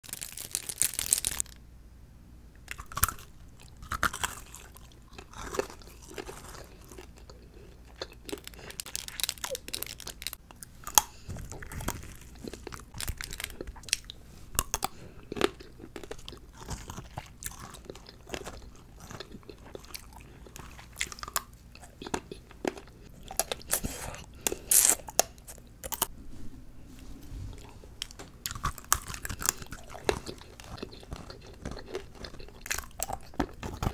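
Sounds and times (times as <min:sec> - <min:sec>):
crunchy chewing close up: 0:02.6 - 0:26.1, 0:27.5 - 0:33.9.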